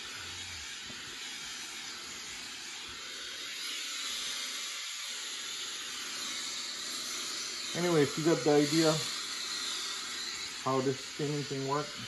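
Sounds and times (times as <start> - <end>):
garment steamer hissing: 0.0 - 12.0.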